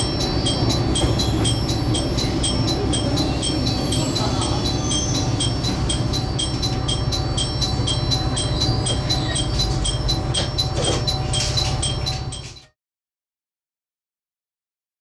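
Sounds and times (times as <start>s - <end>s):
diesel railcar rumble: 0.0s - 12.6s
short high electronic beeps: 0.0s - 12.7s.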